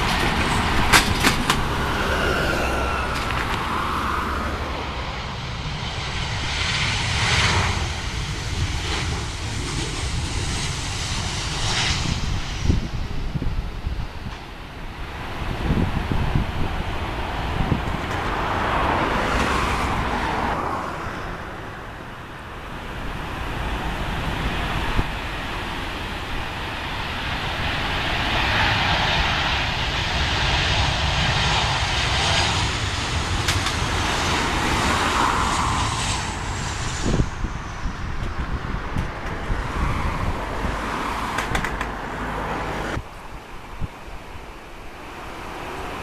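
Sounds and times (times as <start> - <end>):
jet engine whine sliding down: 0.0 - 43.8
jet engine roar: 0.0 - 46.0.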